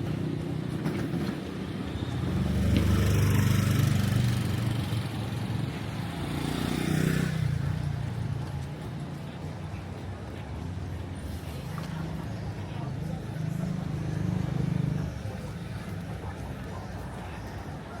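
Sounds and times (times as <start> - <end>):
vehicle engines passing close: 0.0 - 18.0.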